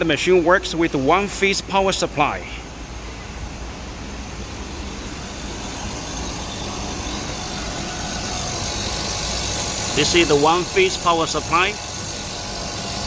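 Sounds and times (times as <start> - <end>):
ice machine humming: 0.0 - 13.0
low steady tones: 0.0 - 13.0.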